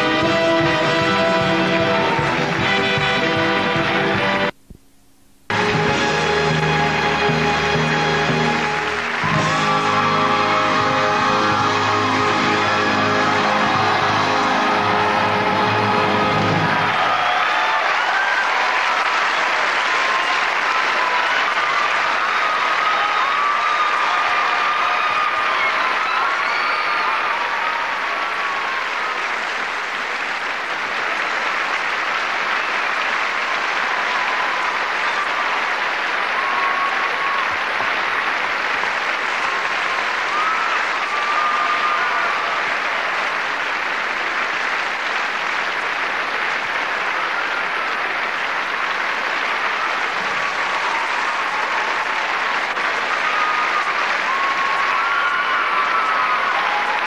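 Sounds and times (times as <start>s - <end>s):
audience applauding: 0.0s - 4.6s, 5.5s - 57.0s
calls from audience: 0.0s - 4.6s, 5.5s - 57.0s.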